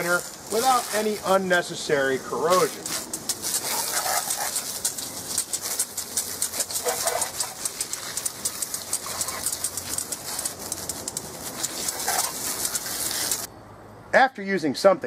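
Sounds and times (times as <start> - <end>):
hose spraying water: 0.0 - 13.5.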